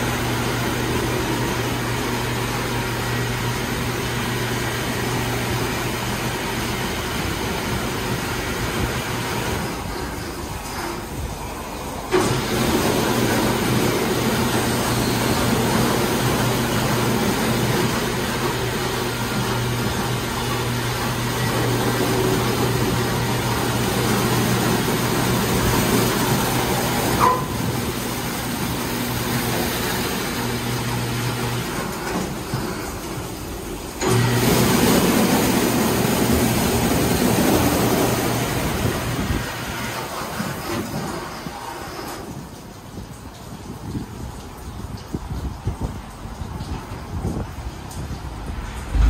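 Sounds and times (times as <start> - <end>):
car wash mechanical hum: 0.0 - 49.0.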